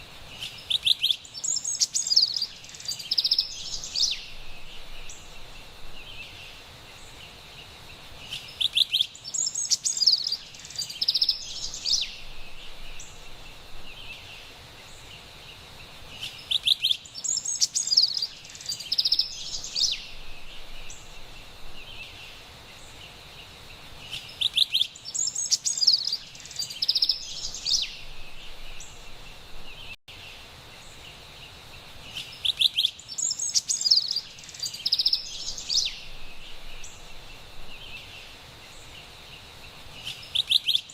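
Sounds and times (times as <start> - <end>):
forest background hiss: 0.0 - 40.9
wren singing rolling phrases: 0.0 - 40.9.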